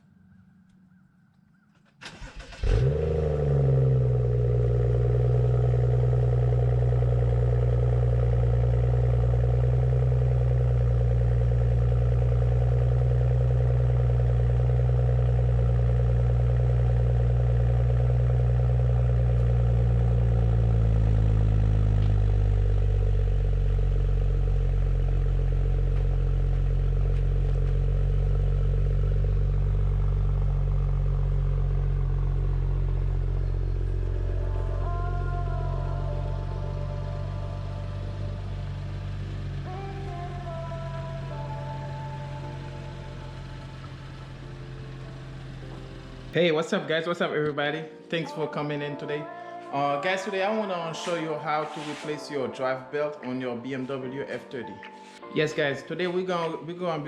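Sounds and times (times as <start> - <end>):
car engine idling: 0.0 - 47.8.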